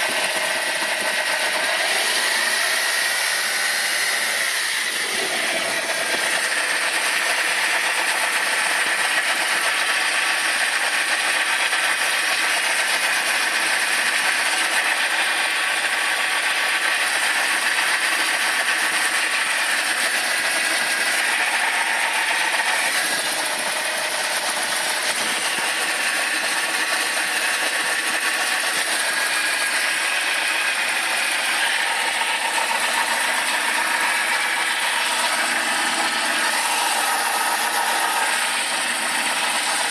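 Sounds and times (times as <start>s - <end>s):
car engine running: 0.0s - 39.9s
engine rattling noise: 0.0s - 39.9s.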